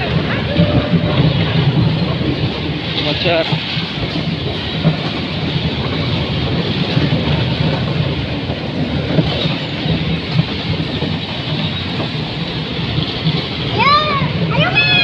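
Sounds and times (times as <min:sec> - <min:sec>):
bumper cars rolling rumble: 0:00.0 - 0:15.0.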